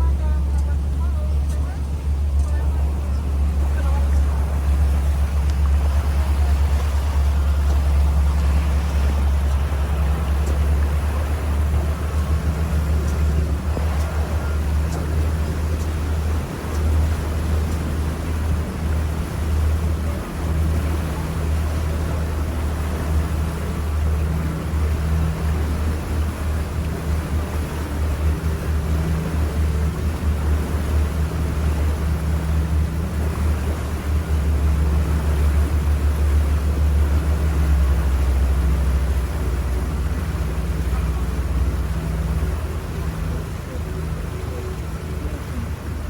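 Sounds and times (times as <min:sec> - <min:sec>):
boat engine humming: 0:00.0 - 0:46.0
water rushing: 0:00.0 - 0:46.0
wind: 0:00.0 - 0:46.0.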